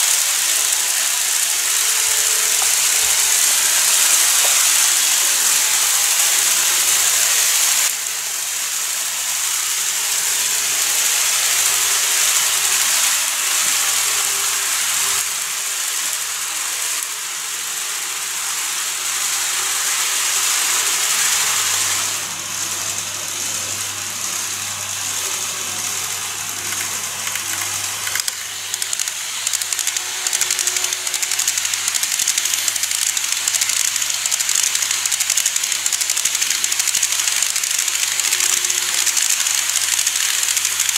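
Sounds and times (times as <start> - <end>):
model train wheels and motors hissing: 0.0 - 40.9.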